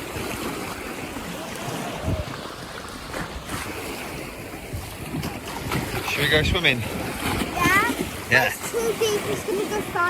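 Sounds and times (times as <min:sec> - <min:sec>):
sea surf washing in: 0:00.0 - 0:10.0
wind gusting on microphone: 0:00.0 - 0:10.0.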